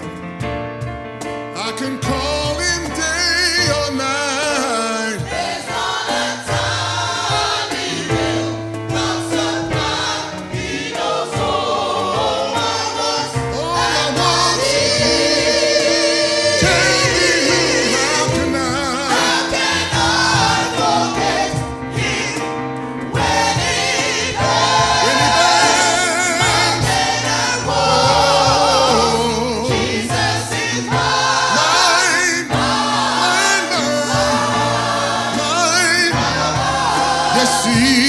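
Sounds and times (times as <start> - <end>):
band accompaniment: 0.0 - 38.0
gospel choir singing: 1.8 - 38.0.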